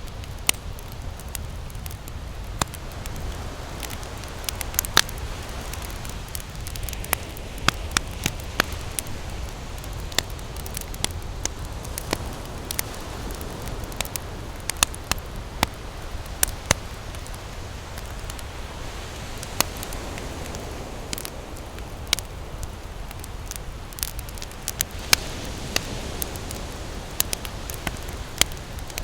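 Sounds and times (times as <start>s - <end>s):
campfire crackling and popping: 0.0s - 29.0s
ocean surf rumble: 0.0s - 29.0s.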